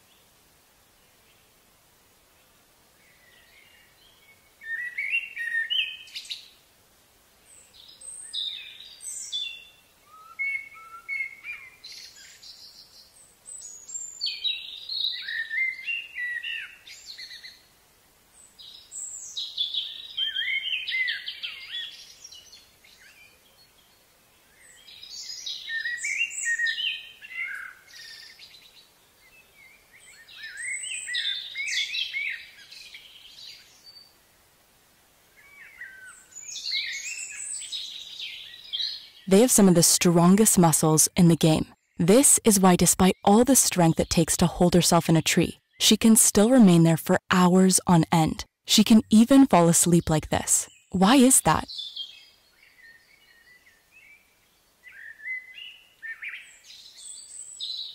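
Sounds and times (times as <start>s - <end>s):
faint background hiss: 0.0s - 57.9s.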